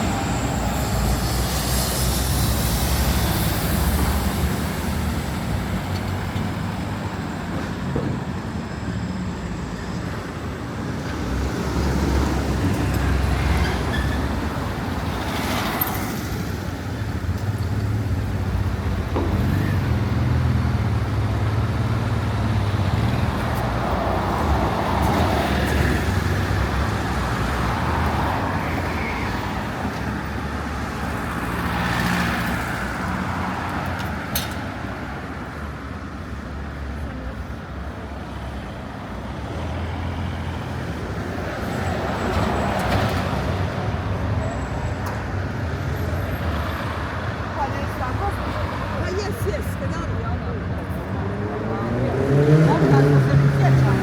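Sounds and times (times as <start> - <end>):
cars and buses passing: 0.0 - 54.0.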